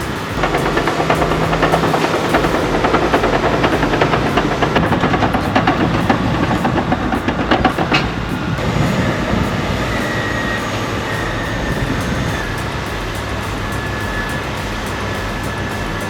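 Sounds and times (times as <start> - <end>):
earthmoving machine engine: 0.0 - 16.0
faint high squeal: 0.0 - 16.0
steel tracks clanking: 0.0 - 16.0.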